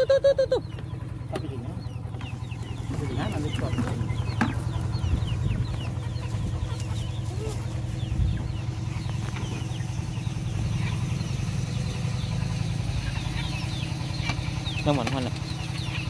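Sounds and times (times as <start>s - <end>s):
chicks peeping: 0.0s - 16.0s
steady low hum: 0.0s - 16.0s.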